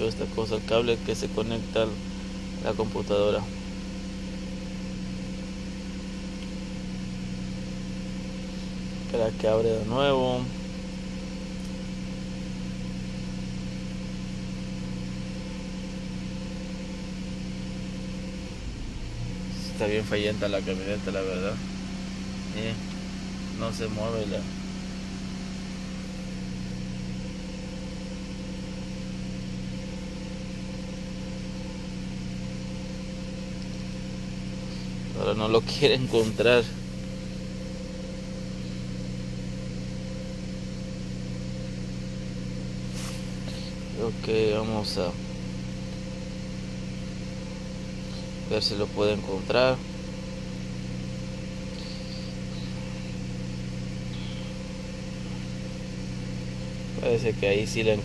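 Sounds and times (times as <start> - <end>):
van engine idling: 0.0 - 58.0.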